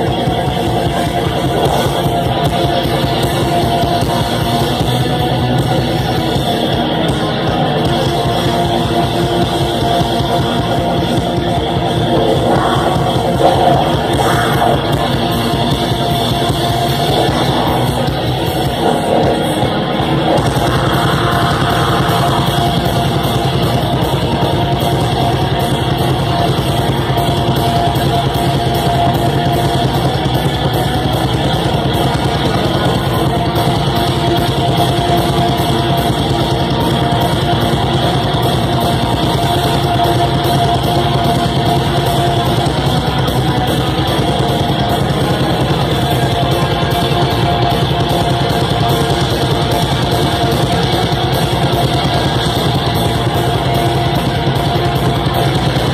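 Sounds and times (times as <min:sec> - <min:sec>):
electric guitars sustained chords: 0:00.0 - 0:55.9
fast drumming with cymbals: 0:00.0 - 0:55.9.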